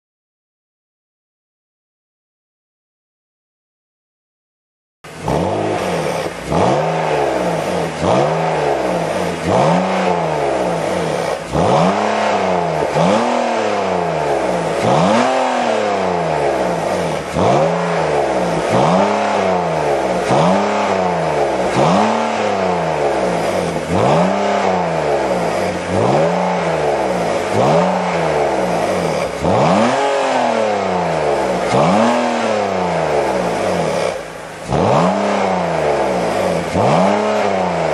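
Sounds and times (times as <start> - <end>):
car engine revving: 5.0 - 37.9.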